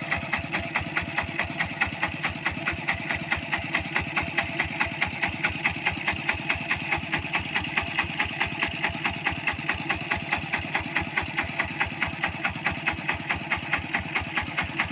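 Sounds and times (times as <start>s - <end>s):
small engine chugging: 0.0s - 14.9s.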